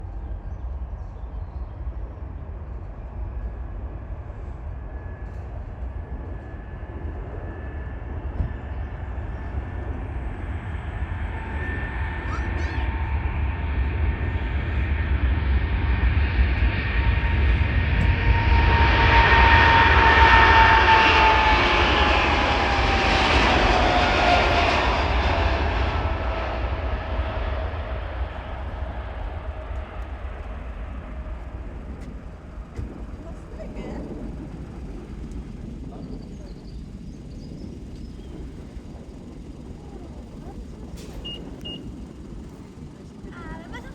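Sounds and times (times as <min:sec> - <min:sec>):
jet engines roaring past: 0:00.0 - 0:43.9.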